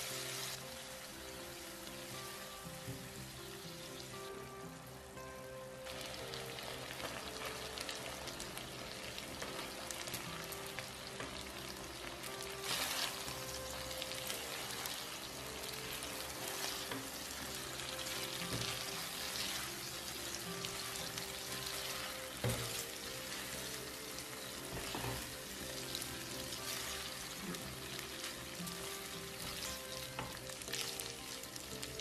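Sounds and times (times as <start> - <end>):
shrimp sizzling in a frying pan: 0.0 - 32.0.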